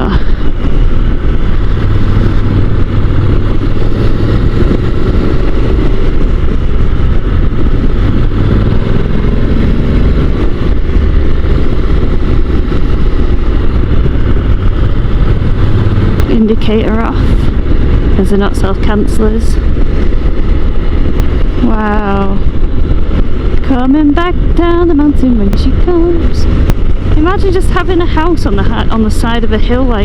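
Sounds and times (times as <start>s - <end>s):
motorcycle engine running: 0.0s - 30.0s
wind and road rush: 0.0s - 30.0s.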